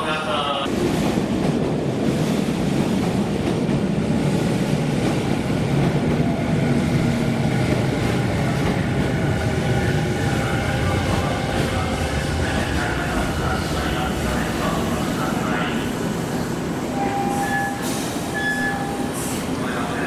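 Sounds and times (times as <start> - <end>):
train wheels rumbling: 0.6 - 20.0.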